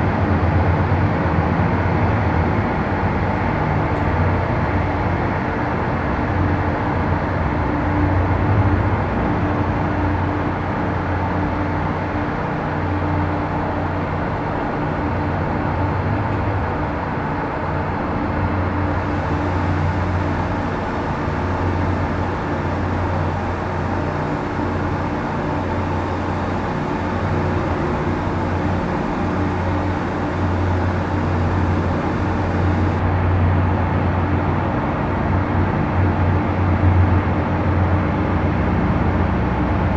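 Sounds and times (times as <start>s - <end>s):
boat engines running: 0.0s - 33.9s.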